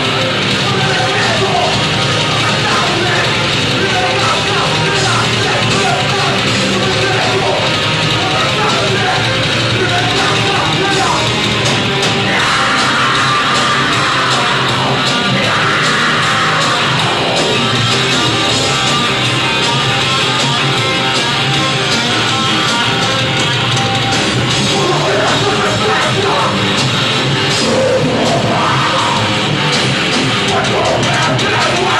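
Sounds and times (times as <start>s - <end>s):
shouted vocals: 0.0s - 23.0s, 24.4s - 31.9s
live heavy rock band: 0.0s - 31.9s.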